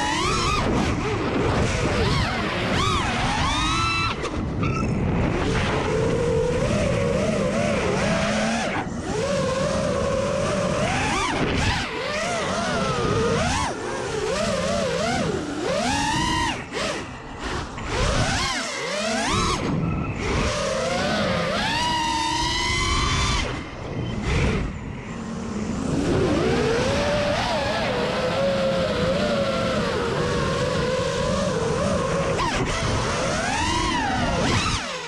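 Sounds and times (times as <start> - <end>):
wind noise: 0.0 - 34.9
quadcopter motors whining: 0.0 - 35.0.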